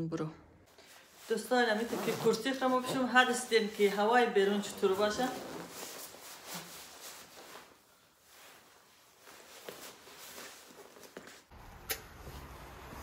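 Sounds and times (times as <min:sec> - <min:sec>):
nylon jacket rustling: 0:00.7 - 0:11.5.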